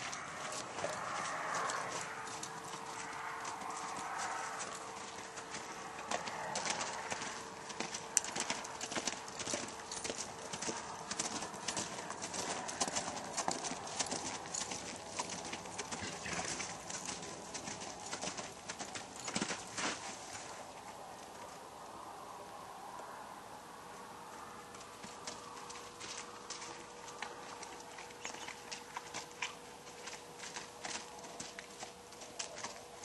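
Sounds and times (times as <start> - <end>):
horse hoofbeats on snow: 0.0 - 20.5, 25.0 - 33.0.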